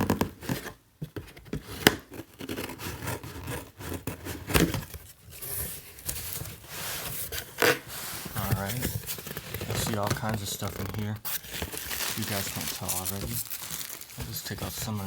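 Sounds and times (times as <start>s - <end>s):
cardboard box ripping and scraping: 1.6s - 15.0s.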